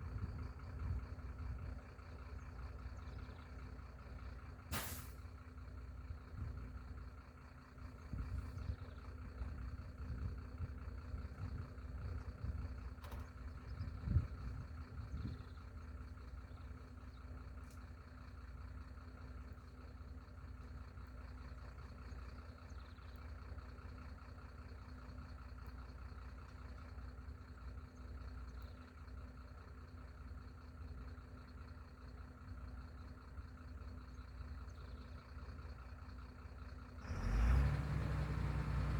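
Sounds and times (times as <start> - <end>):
engine running with low rumble: 0.0 - 38.9.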